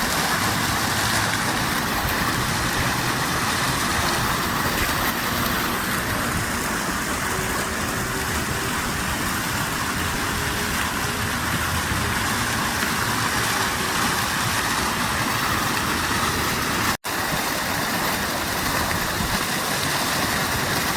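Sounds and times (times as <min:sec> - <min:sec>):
fountain water splashing: 0:00.0 - 0:20.9.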